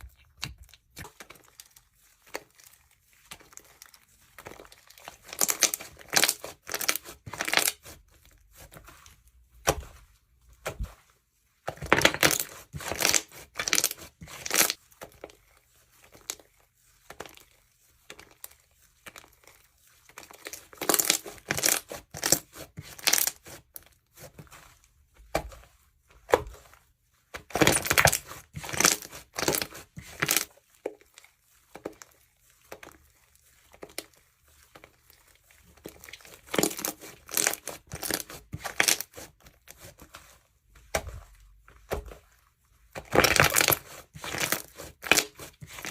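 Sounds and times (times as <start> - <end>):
slime crackling and crunching: 0.0 - 11.0, 11.6 - 25.5, 27.3 - 40.2, 42.9 - 45.9.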